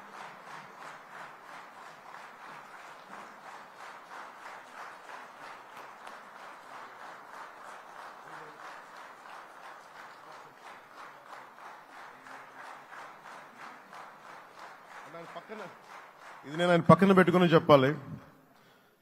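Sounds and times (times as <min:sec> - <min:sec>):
crowd clapping rhythmically: 0:00.0 - 0:18.0.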